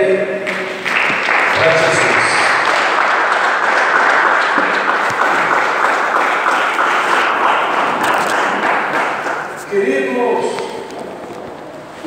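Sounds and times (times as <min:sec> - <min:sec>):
congregation clapping: 0:00.4 - 0:11.1.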